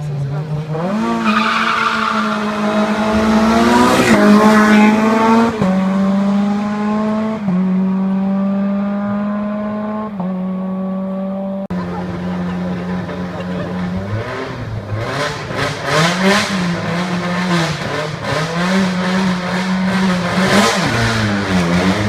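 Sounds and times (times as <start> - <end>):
race car engine revving high: 0.0 - 22.0.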